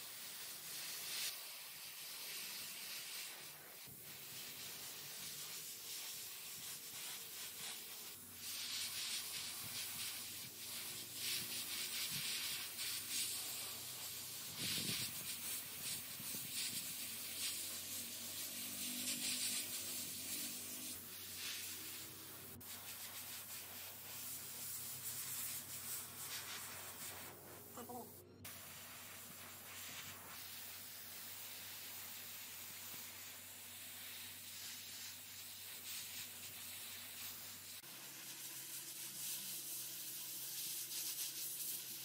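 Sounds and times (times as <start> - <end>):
airbrush spraying hiss: 0.0 - 42.0.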